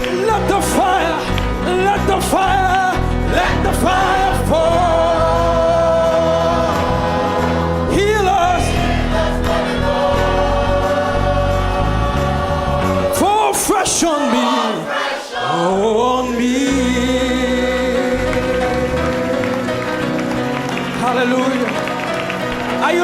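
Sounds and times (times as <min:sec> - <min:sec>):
live band accompaniment: 0:00.0 - 0:14.7, 0:16.6 - 0:23.0
gospel choir singing: 0:00.0 - 0:20.8.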